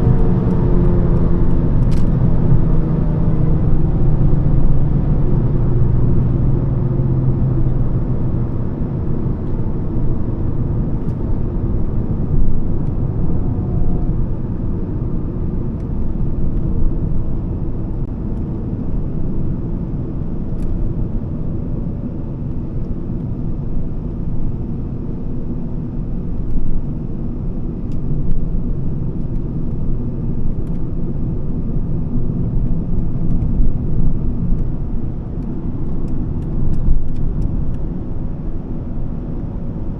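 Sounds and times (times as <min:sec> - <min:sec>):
car engine while driving: 0:00.0 - 0:39.9
tyre road rumble: 0:00.0 - 0:39.9.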